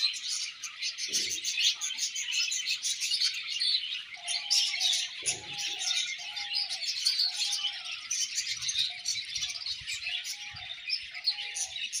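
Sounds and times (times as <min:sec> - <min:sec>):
budgerigars chattering and warbling: 0:00.0 - 0:12.0.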